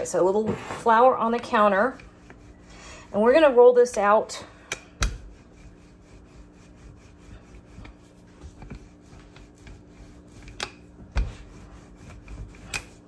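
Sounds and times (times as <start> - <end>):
rolling pin rolling dough: 0.0 - 13.0.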